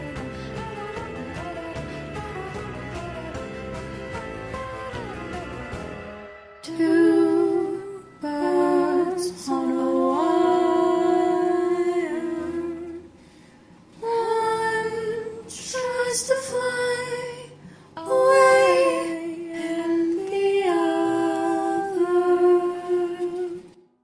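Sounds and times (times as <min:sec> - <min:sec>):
music: 0:00.0 - 0:24.0.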